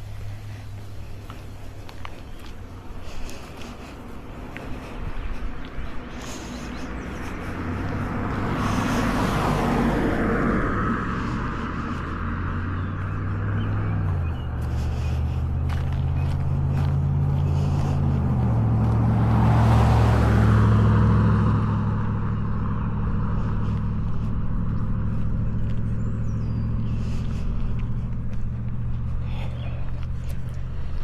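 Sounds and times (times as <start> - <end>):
car engine drone: 0.0 - 31.0
footsteps on pavement: 0.0 - 31.0.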